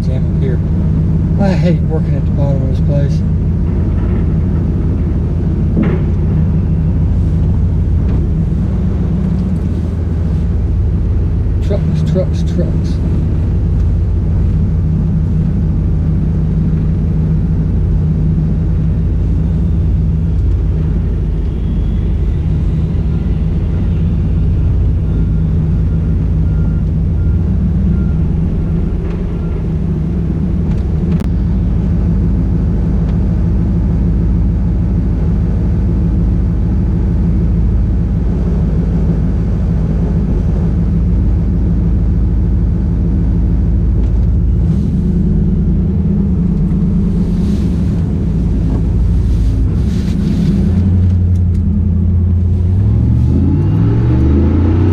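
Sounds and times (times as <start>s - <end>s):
muffled car engine drone: 0.0s - 54.9s
road noise inside car: 0.0s - 54.9s.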